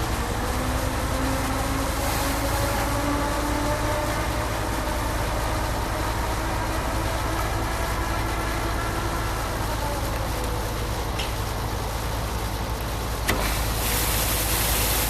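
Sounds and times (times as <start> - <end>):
concrete pump truck droning: 0.0 - 15.0.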